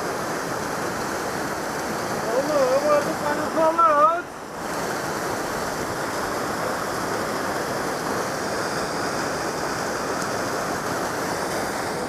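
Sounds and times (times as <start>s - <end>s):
waterfall pouring: 0.0s - 12.0s.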